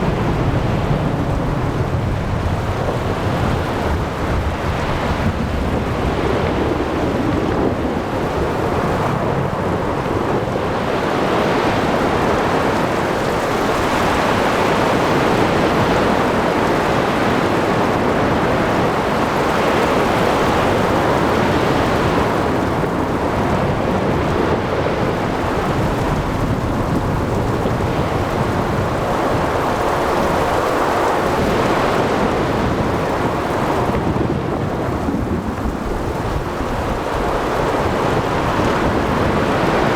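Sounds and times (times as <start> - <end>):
breaking surf: 0.0 - 39.9
rain: 0.0 - 39.9
wind: 0.0 - 39.9.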